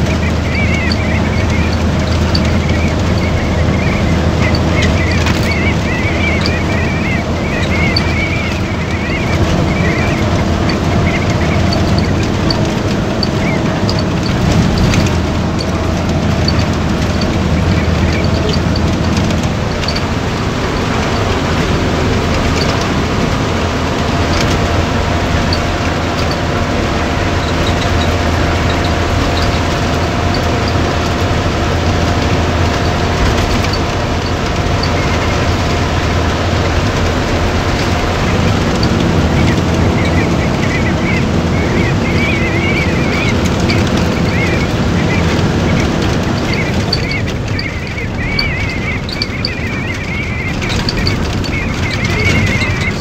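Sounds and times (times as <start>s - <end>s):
bus engine drone: 0.0s - 53.0s
faint clicks and rattles: 0.0s - 53.0s
tyres and wind rushing: 0.0s - 53.0s.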